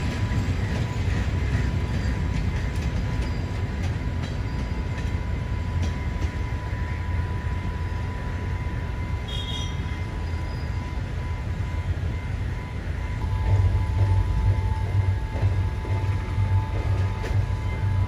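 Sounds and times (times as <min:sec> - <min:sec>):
train carriages rolling on rails: 0:00.0 - 0:18.0.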